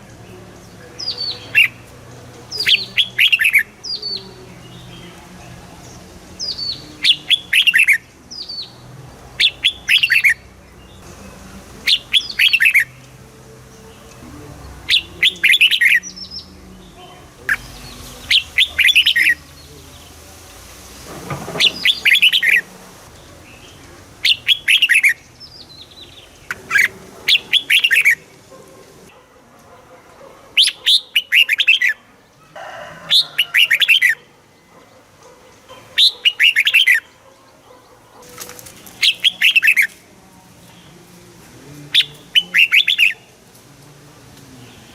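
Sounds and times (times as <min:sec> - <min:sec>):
bird singing chirpy phrases: 0:00.0 - 0:20.8, 0:21.5 - 0:29.2, 0:30.6 - 0:32.1, 0:33.2 - 0:41.2, 0:41.8 - 0:43.6.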